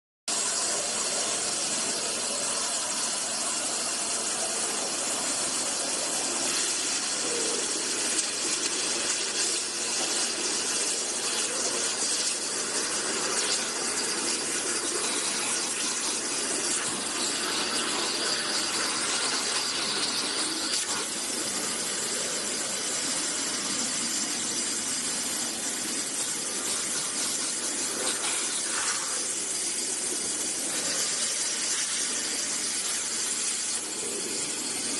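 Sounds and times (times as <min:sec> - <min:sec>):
water jet cutter hissing: 0:00.3 - 0:34.9.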